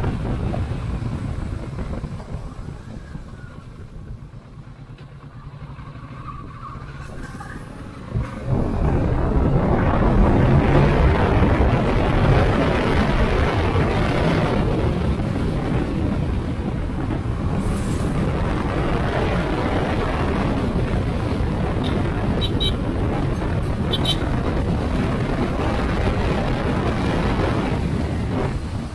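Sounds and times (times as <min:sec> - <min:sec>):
wind rushing over microphone: 0:00.0 - 0:28.9.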